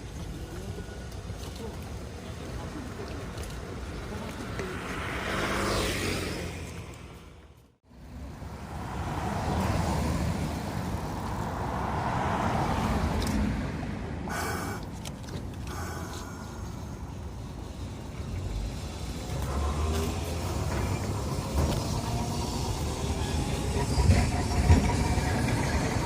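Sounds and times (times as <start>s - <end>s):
street traffic rumbling: 0.0s - 26.0s.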